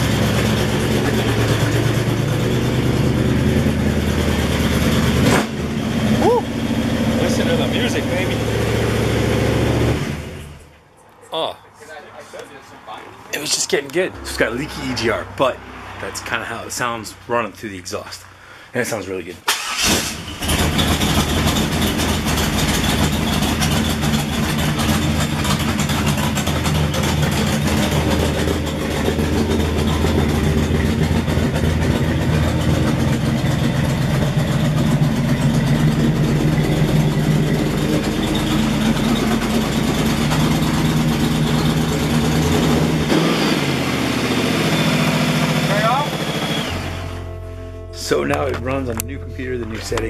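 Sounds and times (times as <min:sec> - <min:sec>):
car engine idling: 0:00.0 - 0:18.9, 0:19.6 - 0:50.0.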